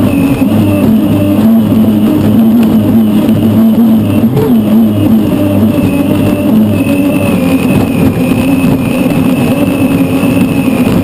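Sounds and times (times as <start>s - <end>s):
gas-turbine engine drone: 0.0s - 11.0s.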